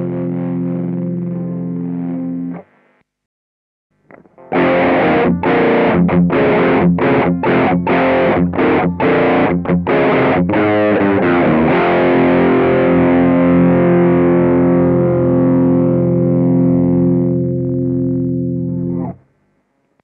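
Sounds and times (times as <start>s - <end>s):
distorted electric guitar chords: 0.0s - 3.0s, 4.0s - 19.3s.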